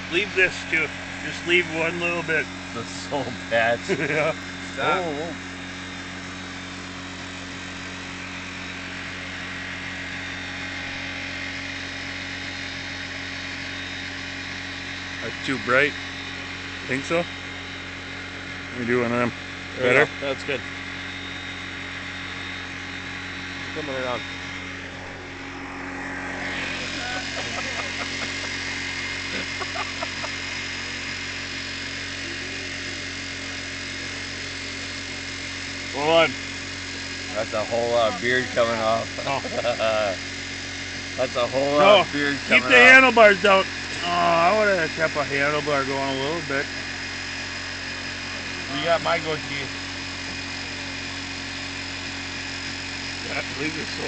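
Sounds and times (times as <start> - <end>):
electric beard trimmer buzzing: 0.0 - 54.0.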